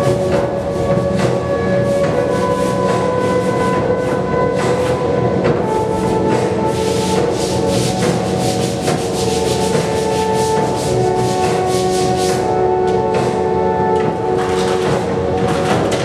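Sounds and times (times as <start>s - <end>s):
background music with held notes: 0.0s - 16.0s.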